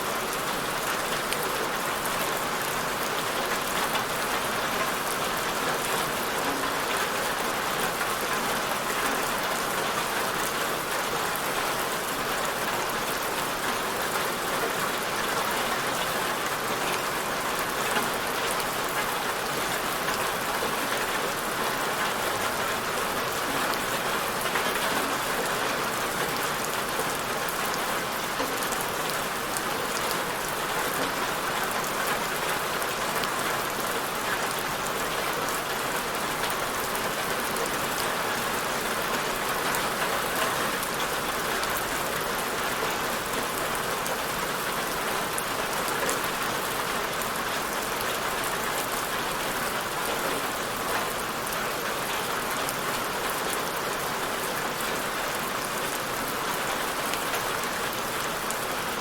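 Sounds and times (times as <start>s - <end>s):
rain falling on a surface: 0.0s - 59.0s.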